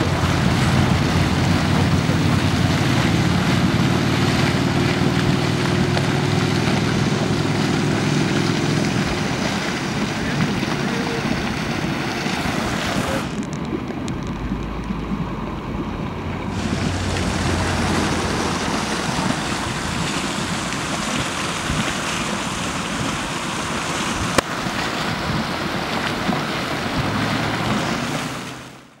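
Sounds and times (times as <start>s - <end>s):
wind buffeting microphone: 0.0s - 28.4s
boiling mud pots hissing: 0.0s - 29.0s.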